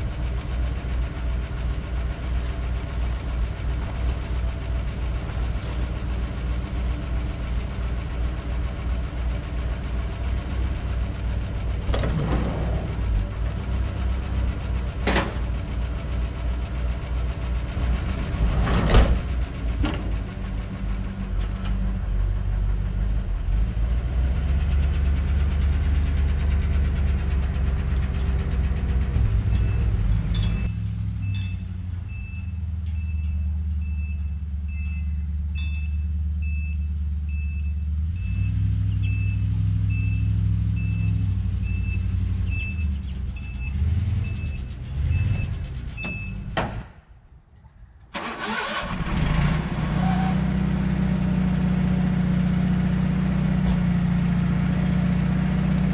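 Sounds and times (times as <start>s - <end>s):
van engine running: 0.0s - 46.8s, 48.1s - 55.9s.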